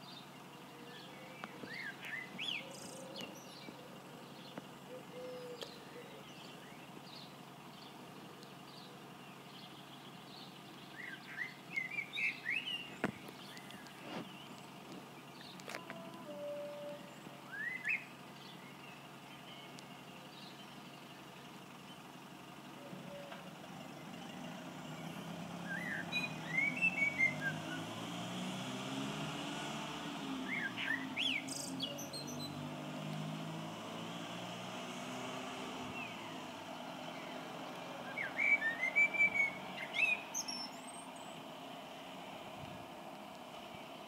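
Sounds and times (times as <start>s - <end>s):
distant bus engine hum: 0.0s - 44.0s
songbird chirping: 0.0s - 44.0s.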